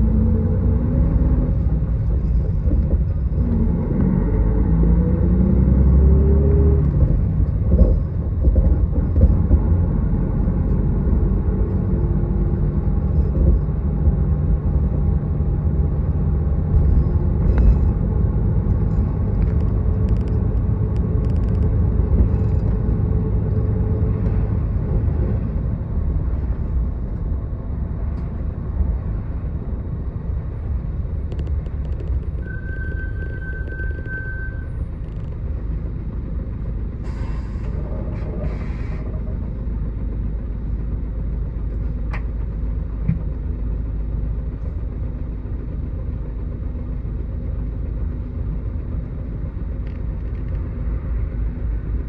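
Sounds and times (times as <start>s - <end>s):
bus engine rumbling: 0.0s - 52.0s.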